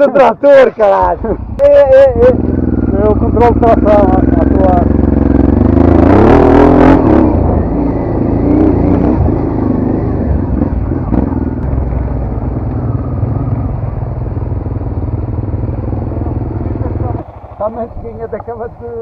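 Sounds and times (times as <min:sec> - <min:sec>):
motorcycle engine running: 0:01.0 - 0:19.0.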